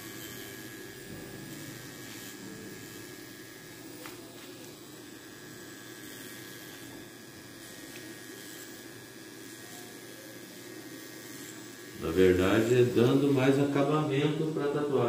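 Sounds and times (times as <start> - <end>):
tattoo machine humming: 0.0 - 15.0.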